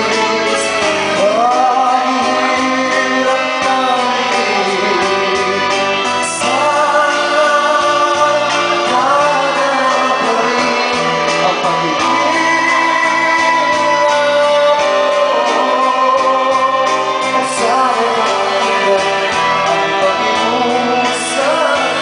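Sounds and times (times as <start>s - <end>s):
duet singing a slow song: 0.0s - 22.0s
instrumental backing: 0.0s - 22.0s.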